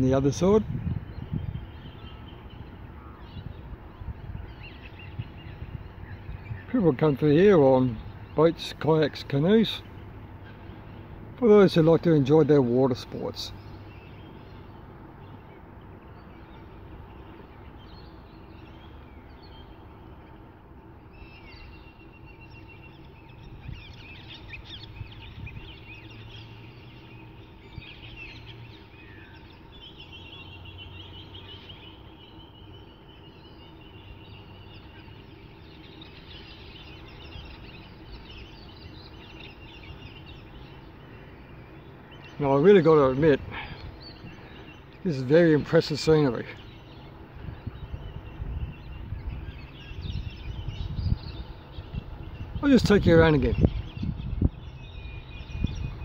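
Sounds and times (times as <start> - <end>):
wild birds calling and trilling: 0.0 - 56.0.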